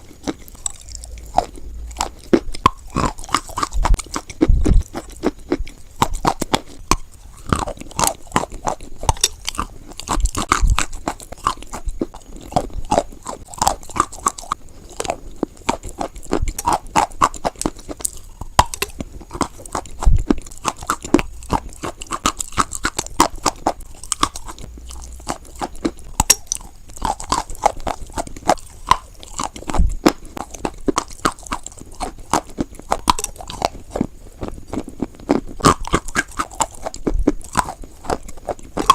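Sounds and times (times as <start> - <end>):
person chewing chalk crunching: 0.0 - 38.9.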